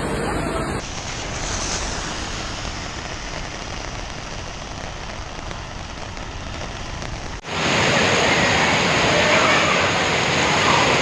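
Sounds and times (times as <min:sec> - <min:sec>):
heavy rain: 0:00.0 - 0:11.0
torrential water rushing: 0:00.0 - 0:11.0
water pouring down cliffs: 0:00.8 - 0:11.0.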